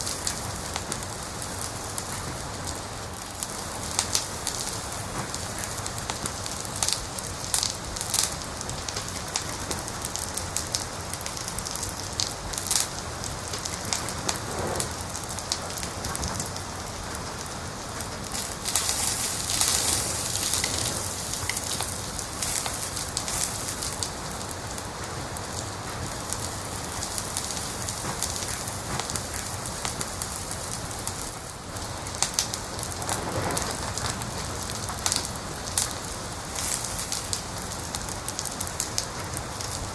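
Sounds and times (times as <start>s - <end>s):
fire hissing: 0.0s - 39.9s
fire pops and snaps: 0.0s - 39.9s.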